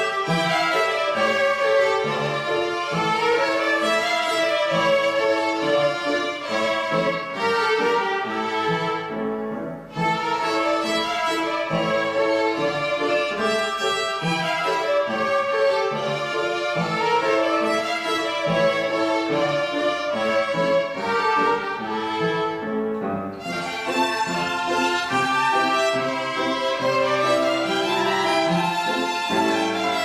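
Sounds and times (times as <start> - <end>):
violin ensemble playing: 0.0 - 30.0.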